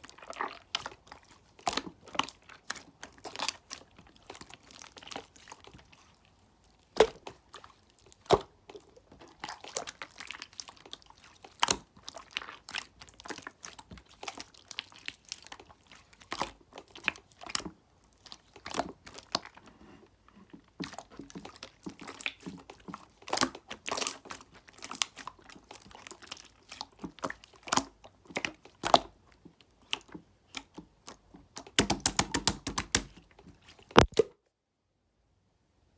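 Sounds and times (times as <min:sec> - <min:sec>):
slime crackling: 0:00.0 - 0:19.8, 0:20.7 - 0:34.2
slime squished by hand: 0:00.0 - 0:19.8, 0:20.4 - 0:34.3.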